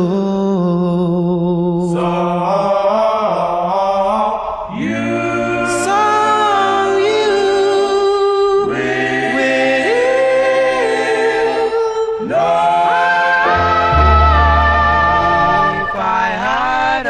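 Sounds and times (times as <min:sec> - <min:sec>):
layered vocal harmonies: 0:01.1 - 0:17.0.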